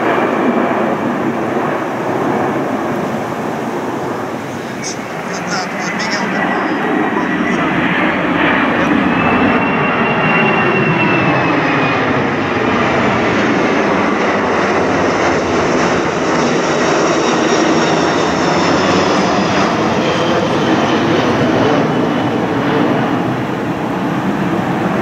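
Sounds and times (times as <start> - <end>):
jet airliner flying overhead: 0.0 - 25.0
whining jet engine tones: 0.0 - 25.0.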